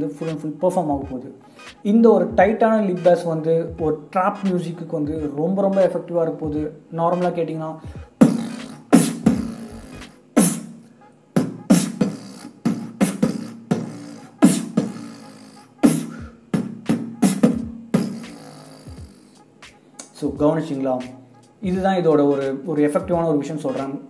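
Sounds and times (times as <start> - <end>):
beatboxed lip bass: 0.2 - 10.8, 11.4 - 21.8.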